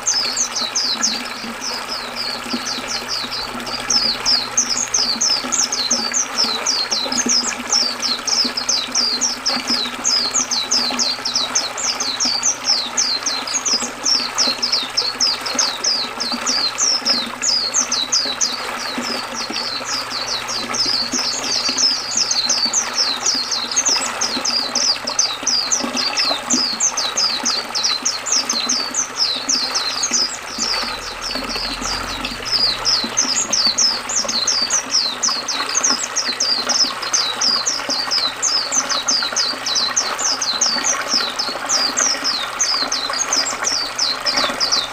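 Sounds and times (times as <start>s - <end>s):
bird singing: 0.0s - 44.9s.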